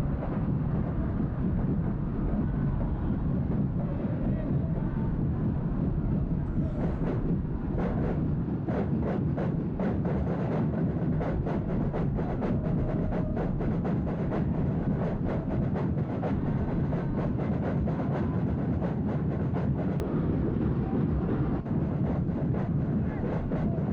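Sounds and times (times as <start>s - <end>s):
stadium crowd roaring: 0.0s - 23.9s.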